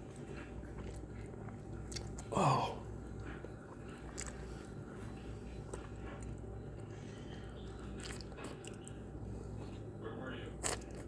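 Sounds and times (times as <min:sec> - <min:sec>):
wet chewing mouth sounds: 0:00.0 - 0:09.9, 0:10.5 - 0:11.0
steady low hum: 0:00.0 - 0:11.0.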